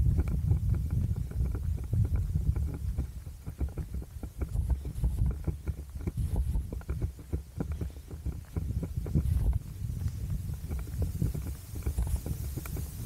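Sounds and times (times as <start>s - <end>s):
runner's footsteps: 0.0s - 13.0s
wind on microphone: 0.0s - 13.0s.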